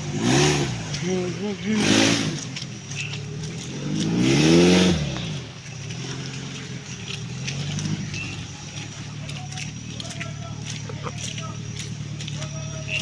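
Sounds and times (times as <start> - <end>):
vehicle engine idling and revving: 0.0 - 13.0.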